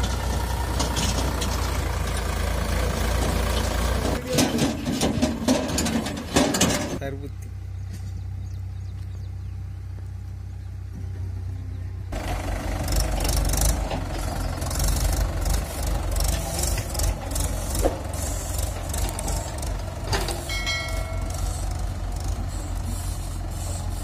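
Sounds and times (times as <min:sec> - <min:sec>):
diesel tractor engines under load: 0:00.0 - 0:24.0.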